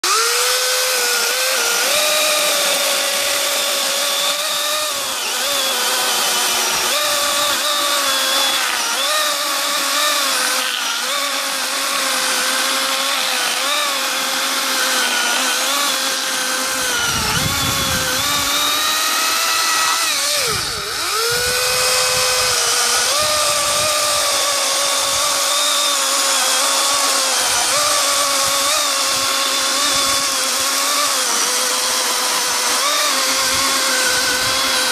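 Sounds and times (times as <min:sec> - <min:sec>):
electric chainsaw cutting log: 0:00.0 - 0:34.9.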